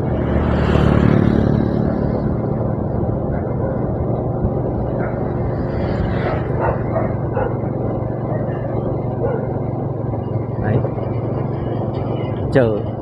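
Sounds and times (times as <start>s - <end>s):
vehicle engine hum: 0.0s - 13.0s
wind and road noise: 0.0s - 13.0s.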